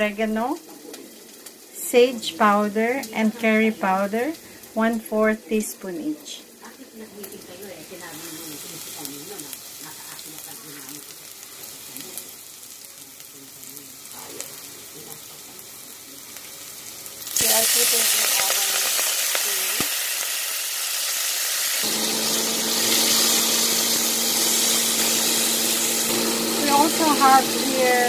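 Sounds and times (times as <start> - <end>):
oil sizzling in a pot: 0.0 - 28.0.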